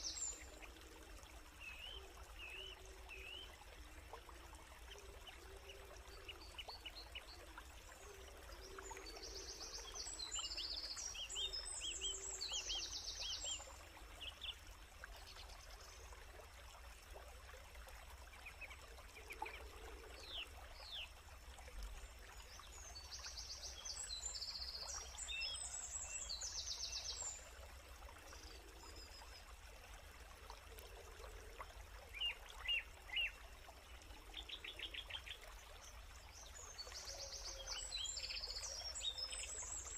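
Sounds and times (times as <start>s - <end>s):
faint stream: 0.0s - 39.9s.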